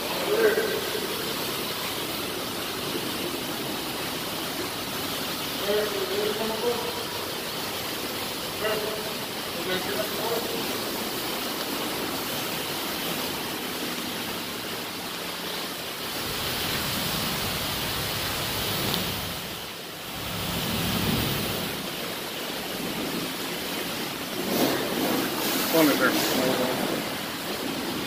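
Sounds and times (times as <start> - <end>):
high-pressure water spray hissing: 0.0 - 28.0.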